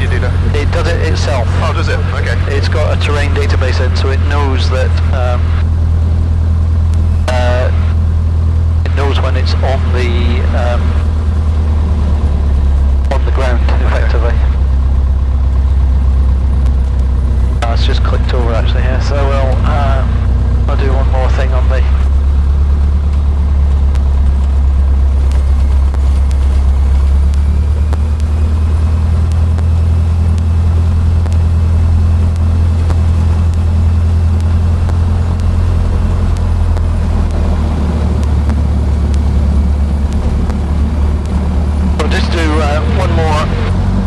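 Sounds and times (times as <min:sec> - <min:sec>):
small plane engine and propeller: 0:00.0 - 0:44.0.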